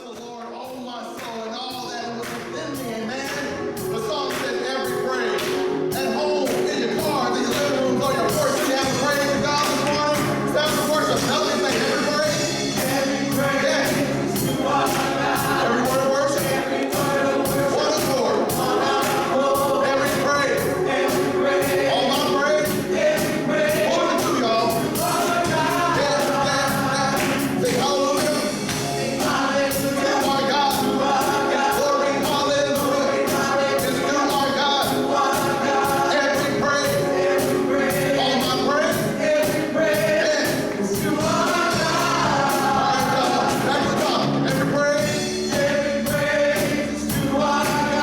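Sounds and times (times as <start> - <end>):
gospel choir singing: 0.0 - 48.0
band accompaniment: 0.1 - 48.0
percussion beat: 0.2 - 48.0.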